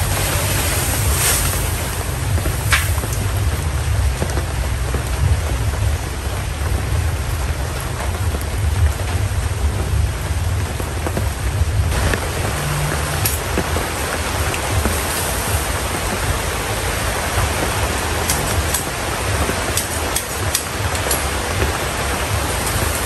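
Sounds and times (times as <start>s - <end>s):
heavy rain pouring: 0.0s - 23.0s
low rumble: 0.0s - 23.0s.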